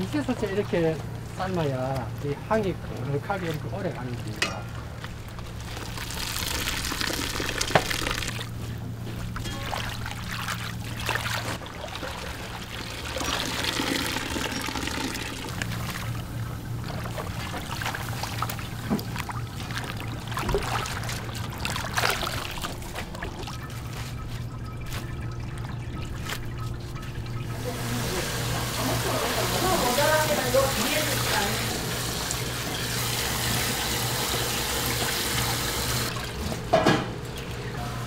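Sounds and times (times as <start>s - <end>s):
constant low hum: 0.0s - 38.0s
water pouring and trickling: 5.0s - 36.4s.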